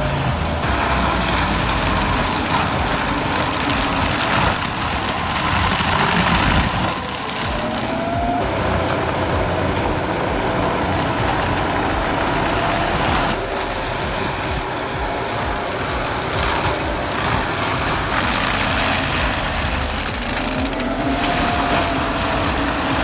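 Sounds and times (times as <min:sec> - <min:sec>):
heavy engine running: 0:00.0 - 0:23.0.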